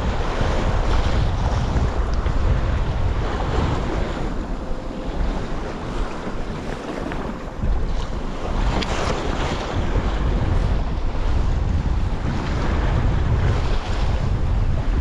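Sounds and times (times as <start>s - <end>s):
waves sloshing and splashing: 0.0s - 15.0s
wind buffeting microphone: 0.0s - 15.0s.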